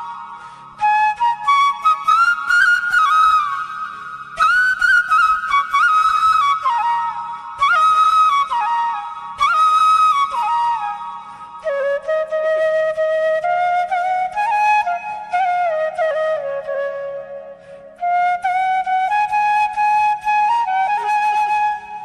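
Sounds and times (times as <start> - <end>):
flute melody: 0.0 - 22.0.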